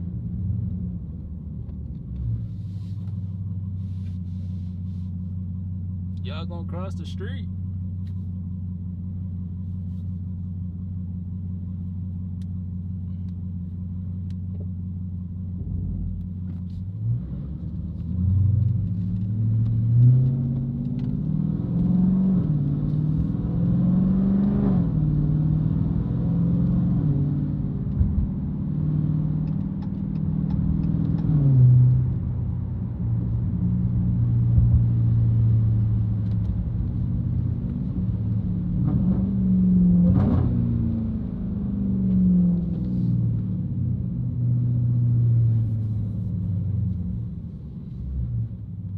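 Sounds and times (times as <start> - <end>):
car engine idling and accelerating: 0.0 - 48.9.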